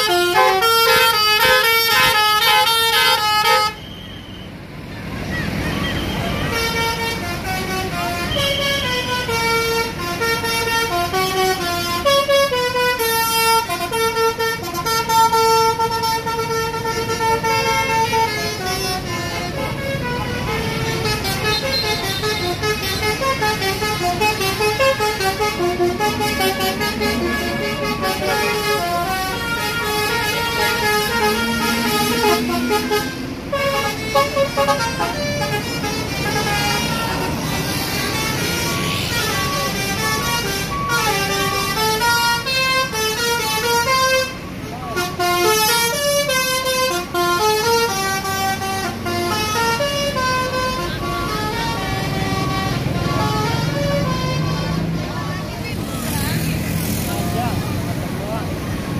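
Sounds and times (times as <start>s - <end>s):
musical air horn playing a tune: 0.0s - 3.8s, 6.4s - 55.0s
bus engine running: 0.0s - 58.9s.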